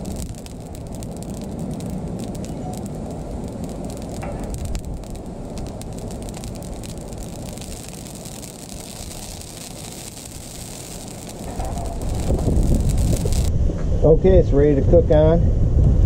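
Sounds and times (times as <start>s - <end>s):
oil sizzling on hot griddle: 0.0s - 13.5s
steady low rush: 0.0s - 16.0s.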